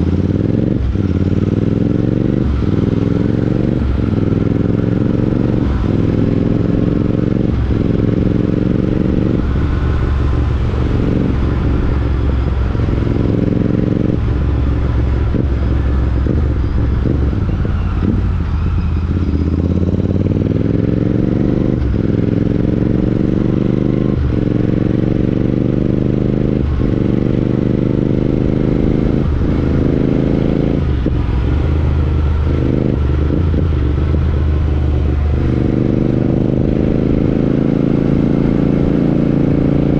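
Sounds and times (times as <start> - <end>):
motorcycle engine accelerating through gears: 0.0 - 39.9.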